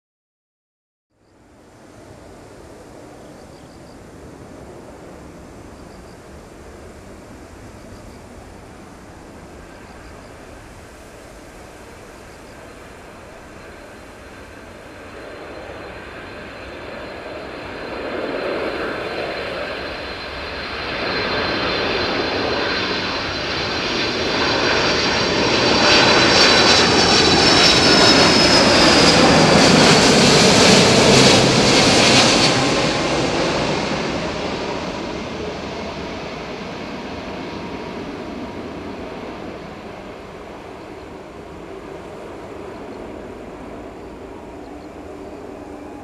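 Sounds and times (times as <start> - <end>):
jet airliner passing overhead: 1.3 - 46.0.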